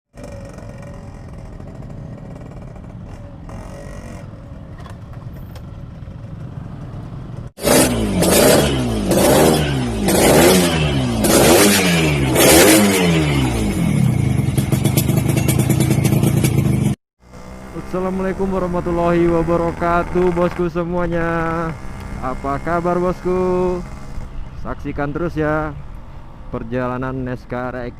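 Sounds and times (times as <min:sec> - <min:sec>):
motorcycle engine revving: 0:00.1 - 0:24.9.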